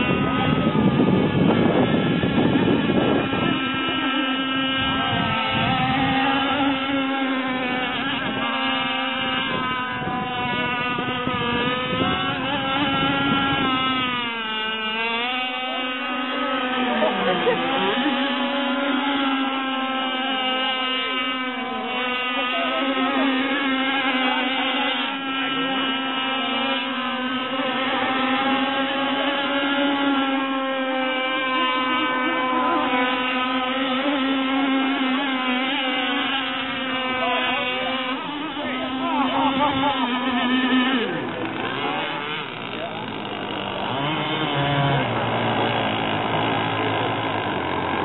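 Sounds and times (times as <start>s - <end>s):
rc boat engines at speed: 0.0s - 48.0s.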